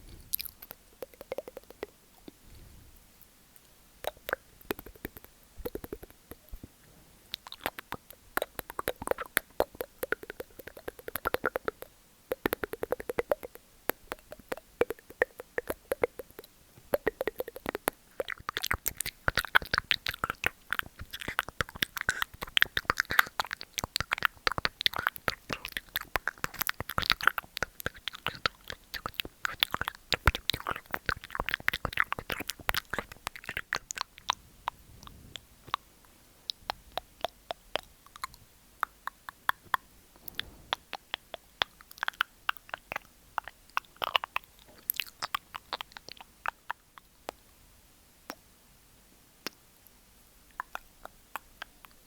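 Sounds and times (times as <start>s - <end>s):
wet tongue clicks and mouth pops: 0.0s - 2.4s, 3.6s - 6.7s, 7.3s - 35.9s, 36.5s - 47.5s, 50.5s - 52.0s.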